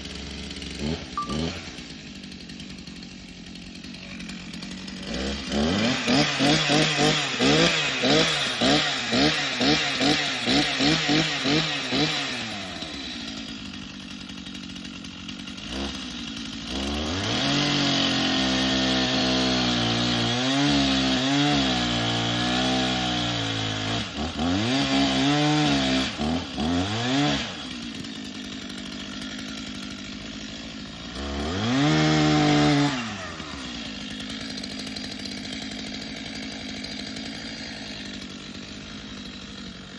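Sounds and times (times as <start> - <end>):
chainsaw revving and cutting: 0.0 - 39.9.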